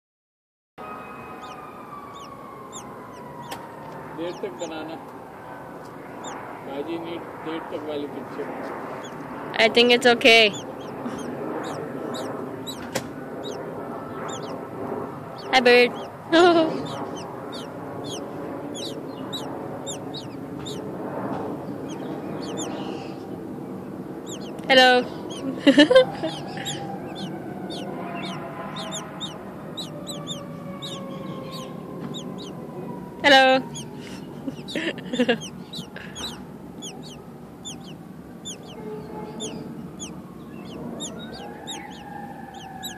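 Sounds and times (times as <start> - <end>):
nestling birds chirping: 0.9 - 42.9
chicks begging peeps: 1.0 - 4.9, 6.2 - 6.4, 8.9 - 42.9.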